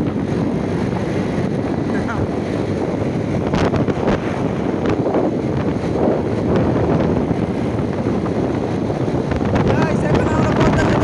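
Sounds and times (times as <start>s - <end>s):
steady noisy rumble: 0.0s - 11.0s
wind buffeting microphone: 0.0s - 11.0s.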